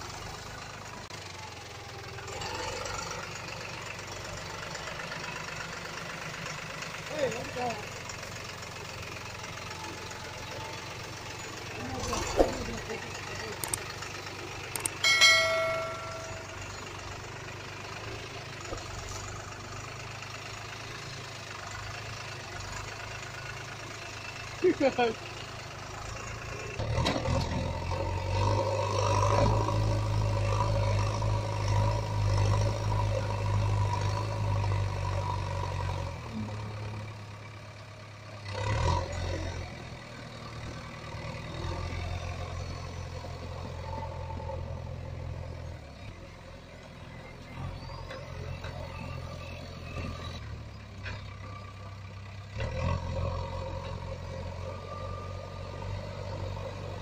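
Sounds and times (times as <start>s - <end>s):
heavy vehicle engine humming: 0.0s - 57.0s.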